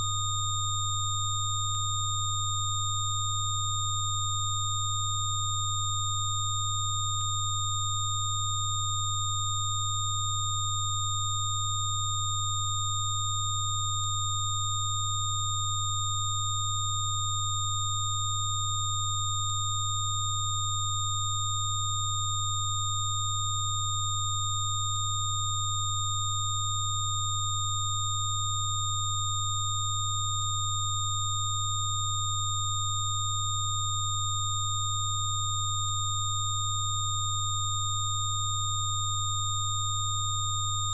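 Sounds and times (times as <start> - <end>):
steady electronic sine tones: 0.0 - 40.9.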